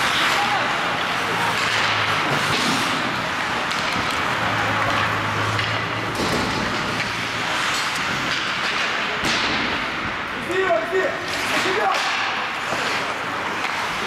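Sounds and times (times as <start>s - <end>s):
hockey sticks and puck clacking: 0.0s - 14.0s
skates scraping on ice: 0.0s - 14.0s.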